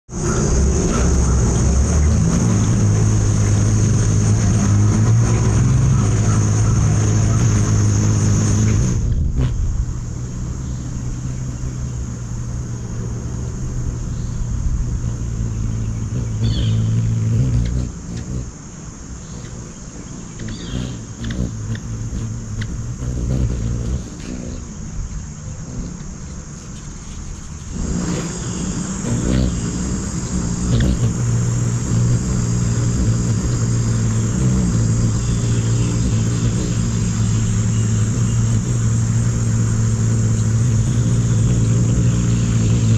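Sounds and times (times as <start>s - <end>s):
hummingbird wingbeats humming: 0.1s - 42.9s.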